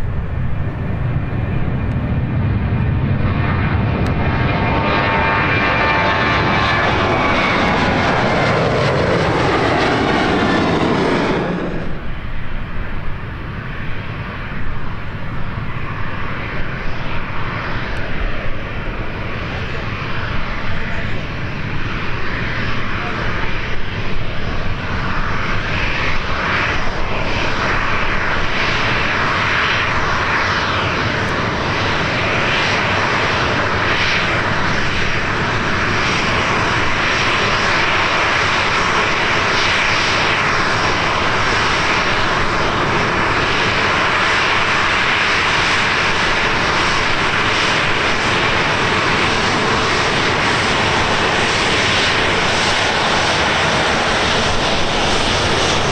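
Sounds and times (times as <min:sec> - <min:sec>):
jet engines rushing: 0:00.0 - 0:55.9
wind buffeting microphone: 0:00.0 - 0:55.9.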